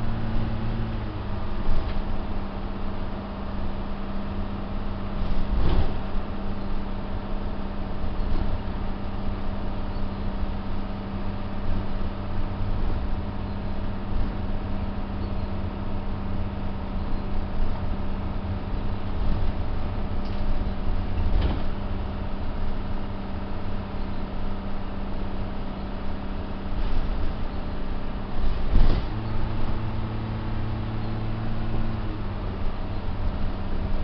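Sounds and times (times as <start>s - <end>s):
bus engine droning: 0.0s - 34.0s
rumble of the ride: 0.0s - 34.0s.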